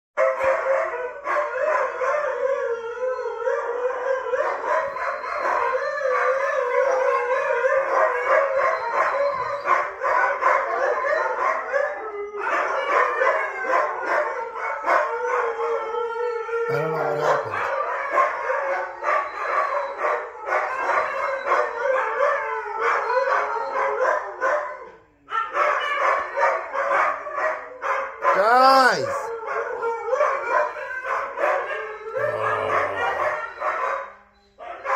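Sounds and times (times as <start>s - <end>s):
huskies howling: 0.6s - 24.4s, 29.0s - 33.9s.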